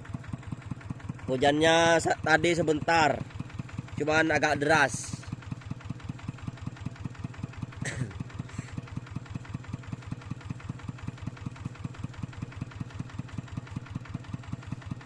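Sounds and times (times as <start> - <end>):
tractor engine chugging: 0.0 - 15.0.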